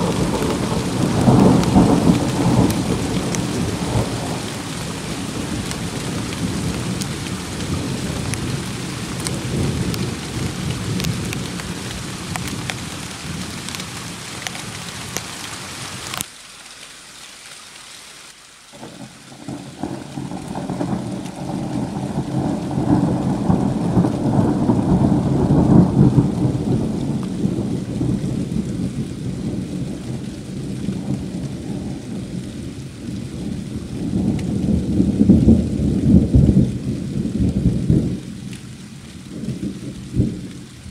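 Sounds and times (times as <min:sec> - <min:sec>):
thunder rumbling: 0:00.0 - 0:14.9, 0:18.8 - 0:40.9
heavy rain hissing: 0:00.0 - 0:40.9.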